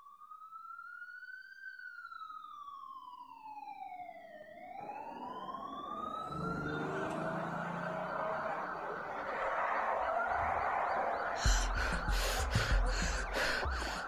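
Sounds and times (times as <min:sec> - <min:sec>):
wailing siren: 0:00.0 - 0:14.0.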